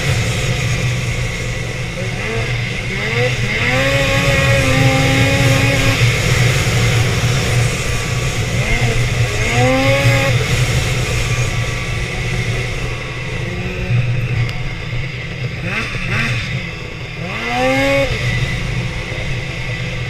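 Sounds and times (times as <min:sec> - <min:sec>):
constant rushing noise: 0:00.0 - 0:20.0
snowmobile engine accelerating: 0:00.0 - 0:20.0.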